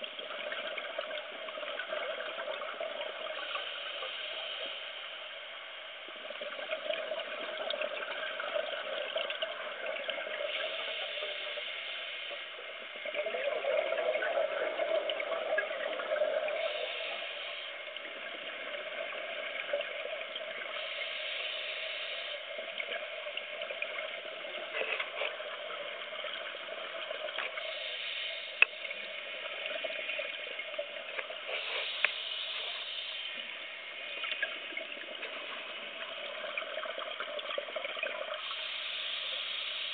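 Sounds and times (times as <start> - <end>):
regulator bubbles gurgling: 0.0 - 4.5, 5.2 - 11.7, 12.4 - 39.9.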